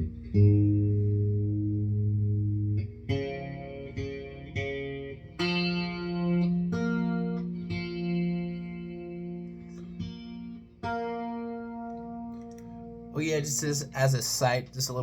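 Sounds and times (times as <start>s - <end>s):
distorted electric guitar chords: 0.0s - 13.9s.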